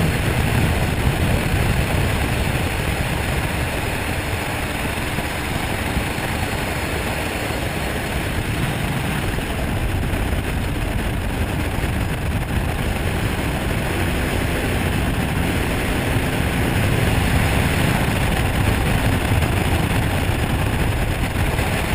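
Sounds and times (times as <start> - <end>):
small aircraft engine running: 0.0 - 21.9
wind rushing over microphone: 0.0 - 21.9.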